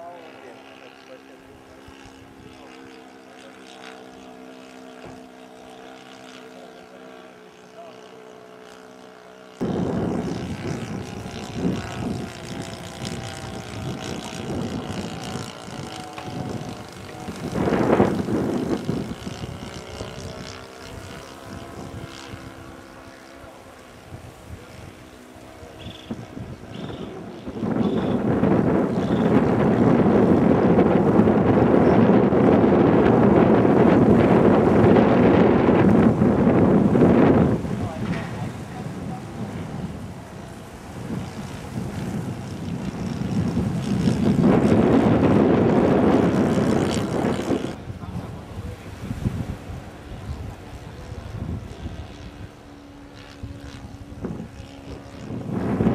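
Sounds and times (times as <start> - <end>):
model plane engine: 0.0 - 55.9
wind buffeting microphone: 9.6 - 55.9.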